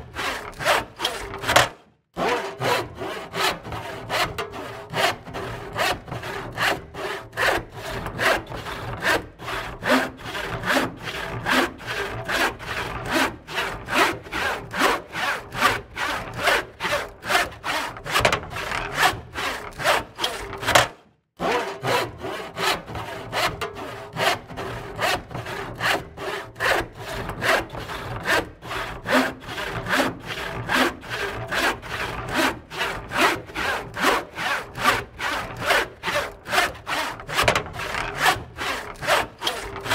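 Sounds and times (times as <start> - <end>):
handsaw cutting wood: 0.0 - 39.9.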